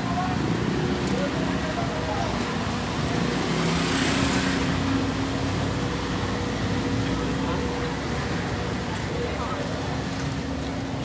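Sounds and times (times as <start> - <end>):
passing traffic: 0.0 - 11.0.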